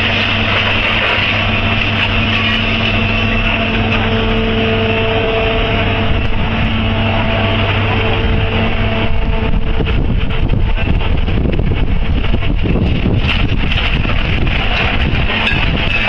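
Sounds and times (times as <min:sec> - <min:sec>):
construction machine engine running: 0:00.0 - 0:16.0
gusty buffeting noise: 0:00.0 - 0:16.0.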